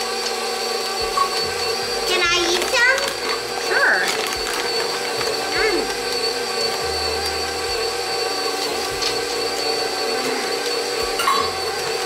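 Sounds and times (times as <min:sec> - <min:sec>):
stand mixer humming with whine: 0:00.0 - 0:12.0.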